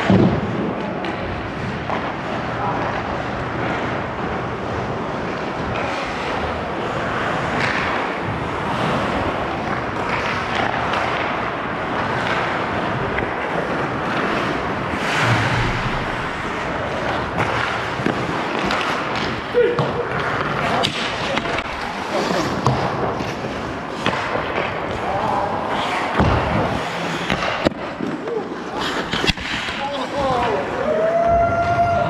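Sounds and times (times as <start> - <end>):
skate blades scraping ice: 0.8 - 30.9.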